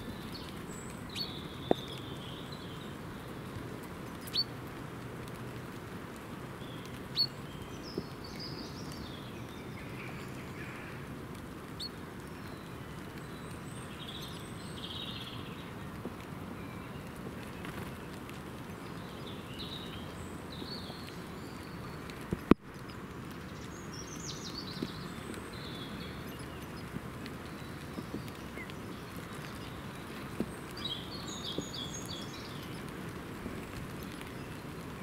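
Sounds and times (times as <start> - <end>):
light rain pattering: 0.0 - 35.0
small birds chirping: 0.0 - 35.0.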